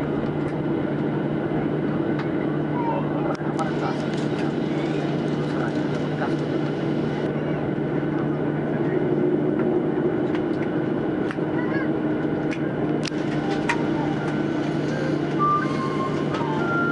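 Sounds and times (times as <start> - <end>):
airliner cabin hum: 0.0 - 16.9.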